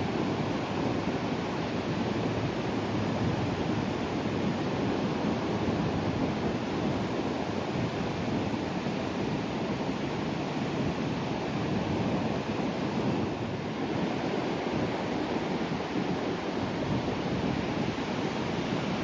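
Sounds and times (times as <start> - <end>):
sea waves breaking on shore: 0.0 - 19.0.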